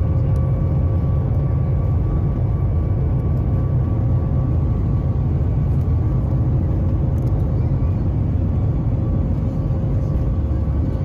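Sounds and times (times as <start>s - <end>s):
heavy low cabin rumble: 0.0s - 11.0s
turbofan engines at takeoff power: 0.0s - 11.0s.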